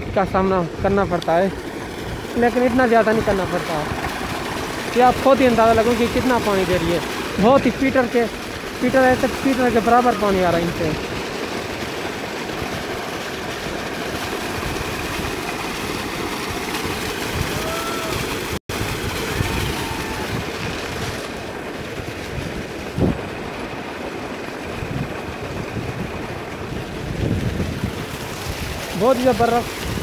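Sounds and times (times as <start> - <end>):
irrigation pump running: 0.0 - 30.0
water gushing from pipe: 0.1 - 30.0.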